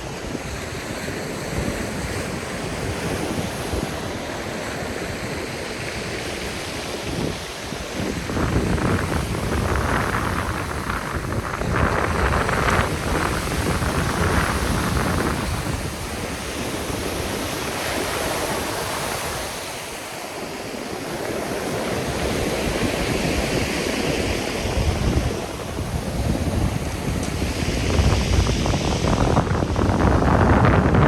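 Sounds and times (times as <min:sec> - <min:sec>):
surf washing on shore: 0:00.0 - 0:31.0
wind buffeting microphone: 0:00.0 - 0:31.0.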